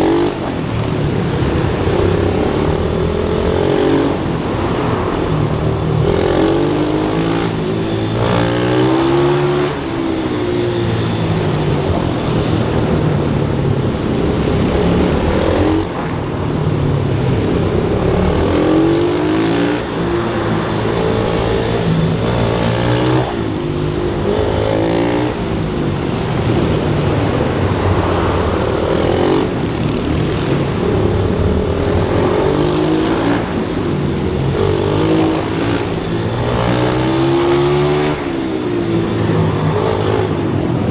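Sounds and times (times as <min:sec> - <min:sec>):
motorbike engines revving: 0:00.0 - 0:40.9.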